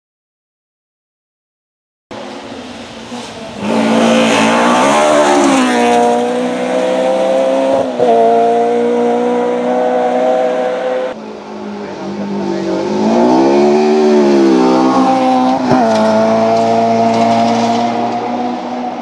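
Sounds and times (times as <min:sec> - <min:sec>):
rally car engine pulling hard: 0:02.2 - 0:19.0.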